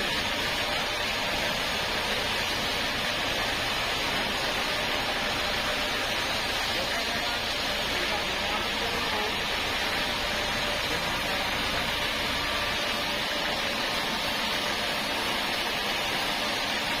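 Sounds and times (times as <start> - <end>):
sawmill machinery hissing: 0.0 - 17.0.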